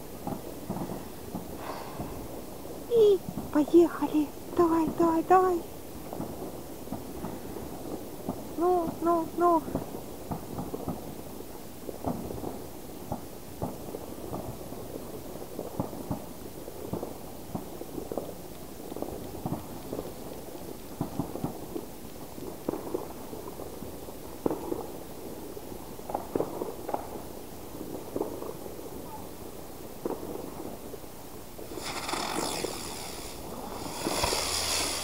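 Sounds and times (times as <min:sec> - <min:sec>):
fireworks popping and banging: 0:00.0 - 0:31.0, 0:31.6 - 0:35.0.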